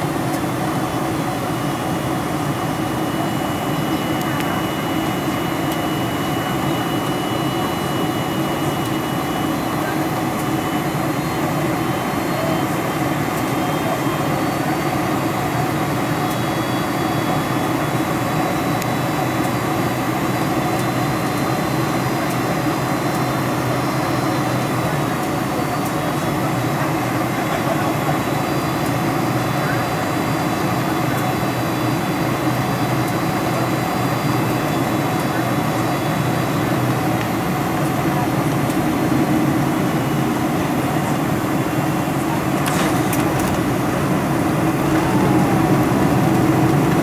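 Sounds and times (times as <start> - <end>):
jet engines running: 0.0 - 47.0
thin high whine tones: 1.2 - 47.0.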